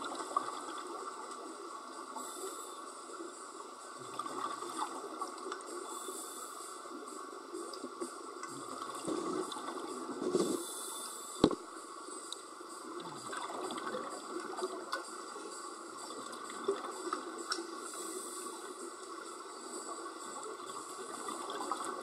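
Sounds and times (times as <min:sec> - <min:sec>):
steady underwater hum: 0:00.0 - 0:22.0.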